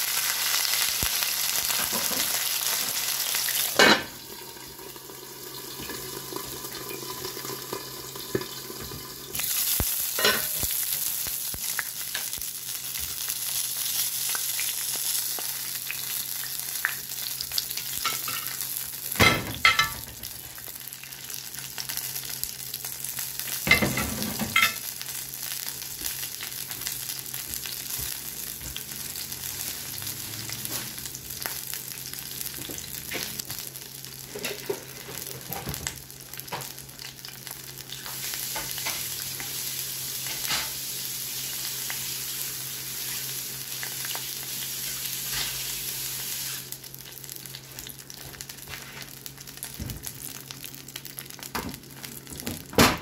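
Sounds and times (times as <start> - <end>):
fish sizzling in skillet: 0.0 - 52.4.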